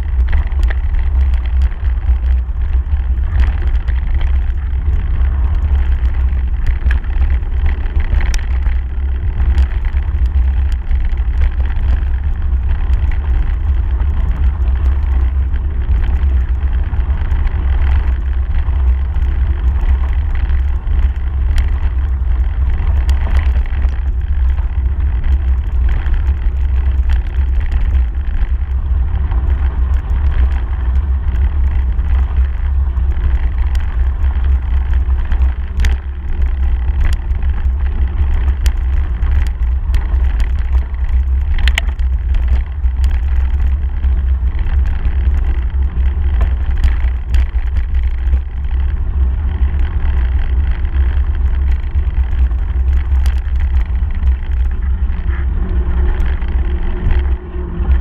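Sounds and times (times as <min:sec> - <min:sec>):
bike tyres crunching on gravel: 0:00.0 - 0:57.4
bike clicks and rattles: 0:00.0 - 0:58.0
wind rumble on microphone: 0:00.0 - 0:58.0.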